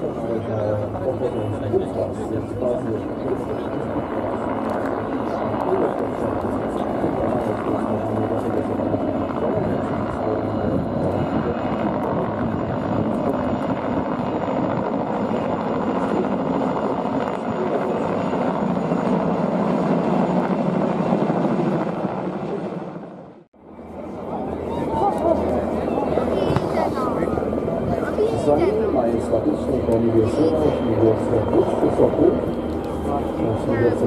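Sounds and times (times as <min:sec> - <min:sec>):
helicopters flying over: 0:00.0 - 0:34.0.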